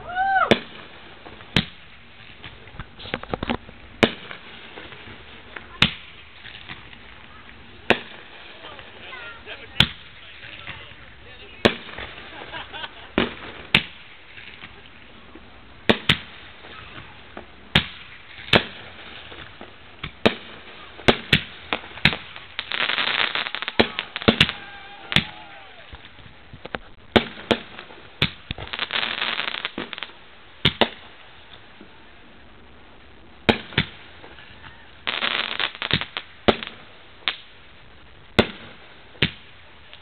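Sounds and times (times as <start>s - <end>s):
firework bangs: 0.0s - 40.0s
firework crackling: 0.0s - 40.0s.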